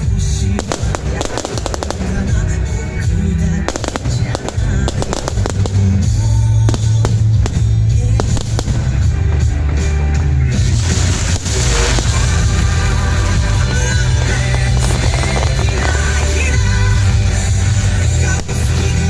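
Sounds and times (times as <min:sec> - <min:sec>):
fireworks cracks and bangs: 0:00.0 - 0:19.0
loud music with heavy bass: 0:00.0 - 0:19.0.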